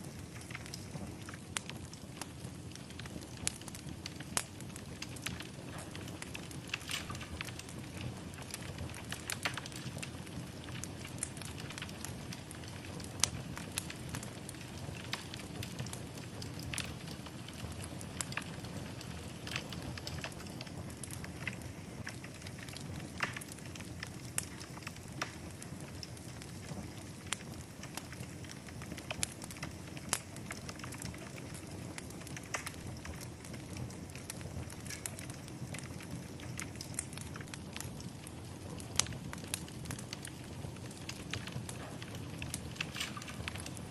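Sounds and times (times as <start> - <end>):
low rush of flame: 0.0 - 43.9
wood fire crackling and popping: 0.0 - 43.9.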